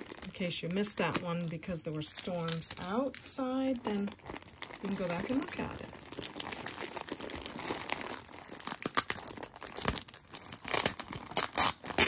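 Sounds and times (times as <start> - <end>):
plastic bag and tape crinkling: 0.0 - 12.0.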